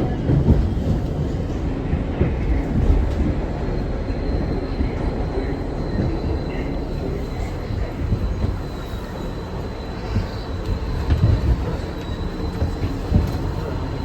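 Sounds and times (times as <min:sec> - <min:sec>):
subway car rumbling: 0:00.0 - 0:14.0.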